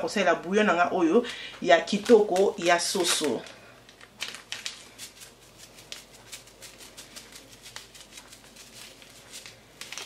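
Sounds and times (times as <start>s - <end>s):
plastic sachet rustling: 1.2s - 10.0s.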